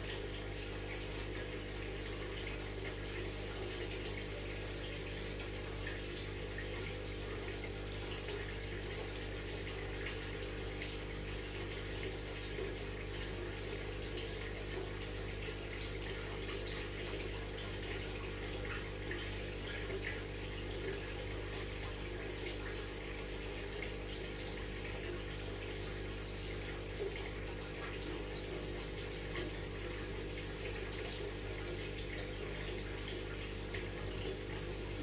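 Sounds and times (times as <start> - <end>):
aquarium water trickling and bubbling: 0.0 - 35.0
low pump hum: 0.0 - 35.0.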